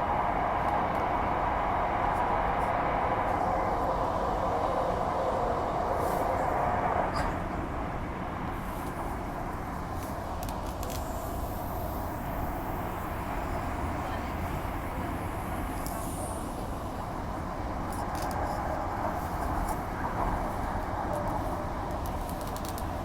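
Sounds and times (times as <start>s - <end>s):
train hum: 0.0s - 23.0s
wheels rumbling on rail: 0.0s - 23.0s.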